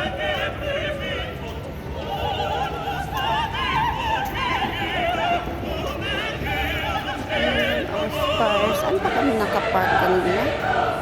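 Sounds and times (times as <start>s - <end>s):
operatic singing with music: 0.0s - 11.0s.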